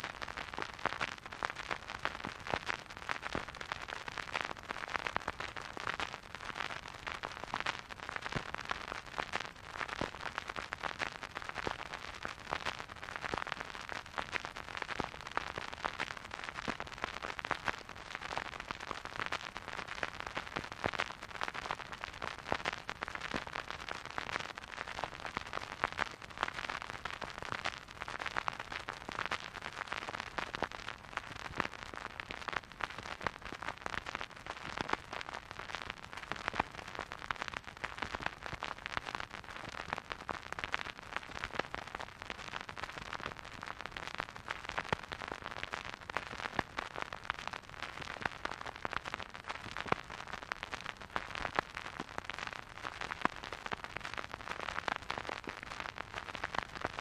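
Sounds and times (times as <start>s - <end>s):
vinyl record crackle and hiss: 0.0s - 57.0s.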